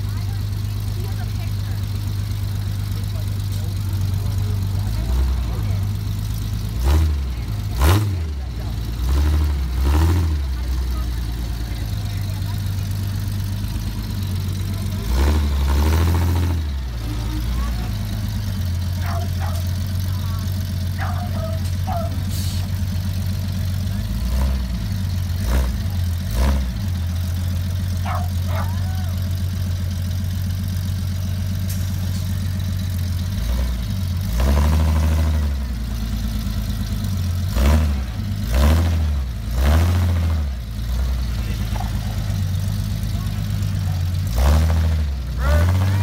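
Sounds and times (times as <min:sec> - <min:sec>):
buggy engine idling: 0:00.0 - 0:46.0
engine throttle blips: 0:00.0 - 0:46.0.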